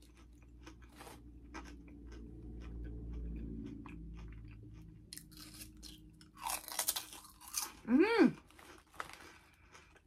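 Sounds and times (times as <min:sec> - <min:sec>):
low background hum: 0:00.0 - 0:10.0
potato chips being chewed: 0:00.0 - 0:10.0.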